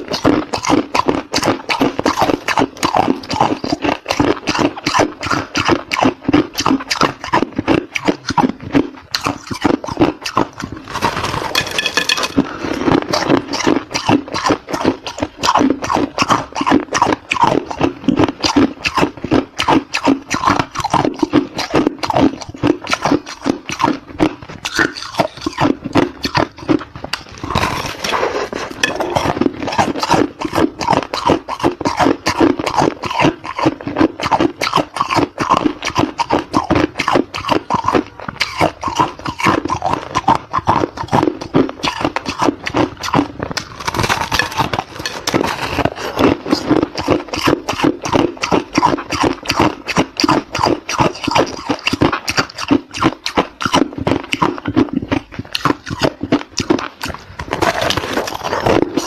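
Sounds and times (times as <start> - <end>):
ice crunching in mouth: 0.0 - 59.0.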